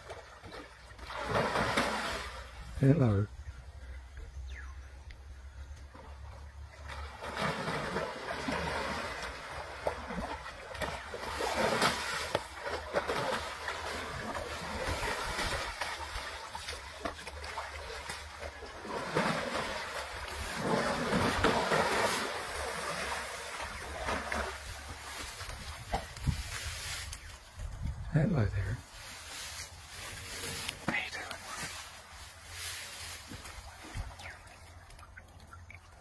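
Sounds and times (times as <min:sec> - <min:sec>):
water sloshing and splashing: 0:00.0 - 0:02.6, 0:06.0 - 0:27.0, 0:29.1 - 0:36.0.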